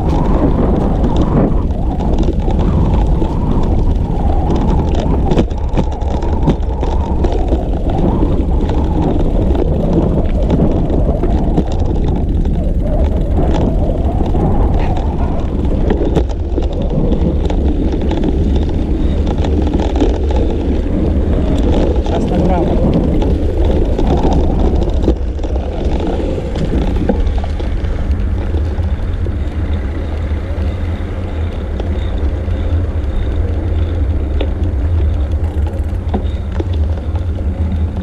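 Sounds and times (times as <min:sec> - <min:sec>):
bicycle road noise: 0:00.0 - 0:38.0
wind rumbling on microphone: 0:00.0 - 0:38.0.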